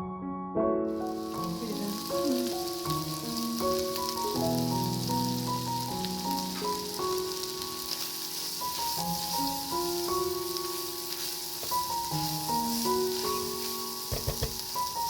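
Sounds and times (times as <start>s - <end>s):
melodic background music: 0.0s - 15.0s
food sizzling in a pan: 0.9s - 15.0s.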